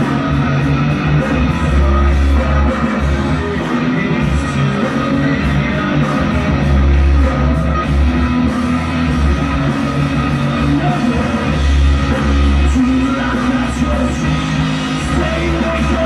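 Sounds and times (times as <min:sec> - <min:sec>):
rock band playing loudly: 0:00.0 - 0:16.0.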